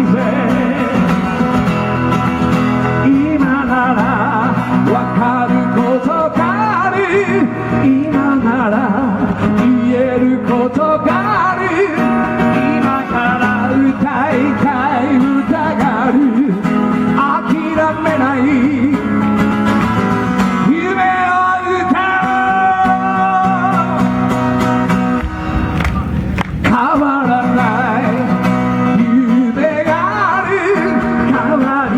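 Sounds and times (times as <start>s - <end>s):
man singing with vibrato: 0.0s - 19.6s, 20.2s - 25.2s, 26.6s - 31.9s
guitar: 0.0s - 31.9s.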